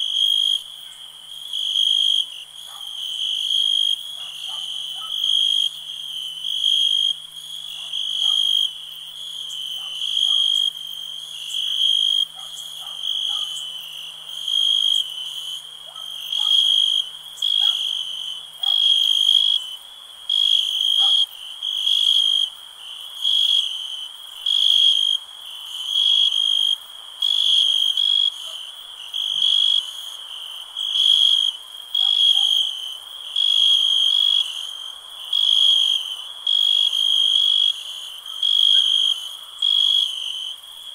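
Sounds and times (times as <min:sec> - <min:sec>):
animals chirping at night: 0:00.0 - 0:40.9.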